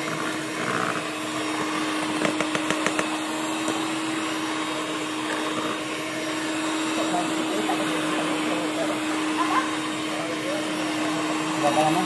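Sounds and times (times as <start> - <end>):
electric hand mixer running: 0.0 - 12.0.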